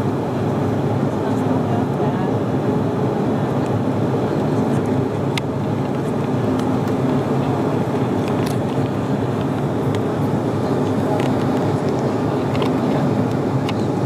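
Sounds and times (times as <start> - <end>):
jet engines and airflow roaring: 0.0 - 14.0.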